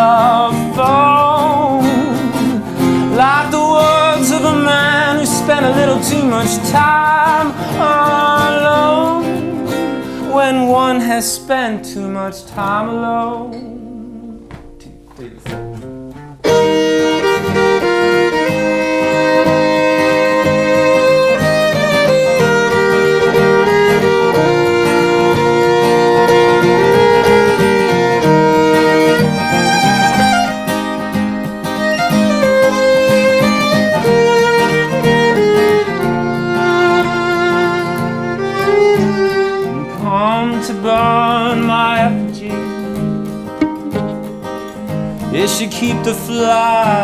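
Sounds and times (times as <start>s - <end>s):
violin melody: 0.0s - 11.1s, 16.4s - 46.6s
acoustic guitar: 0.0s - 47.0s.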